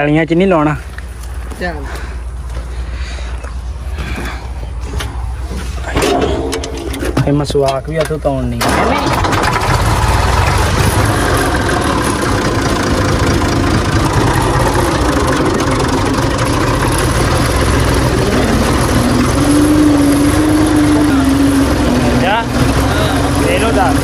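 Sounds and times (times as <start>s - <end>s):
tractor engine running: 0.9s - 24.0s.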